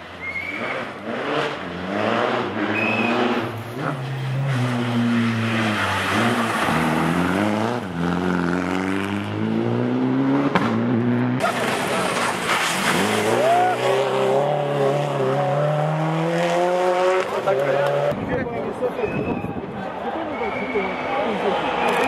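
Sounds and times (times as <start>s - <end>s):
rally car engine revving: 0.0s - 18.3s.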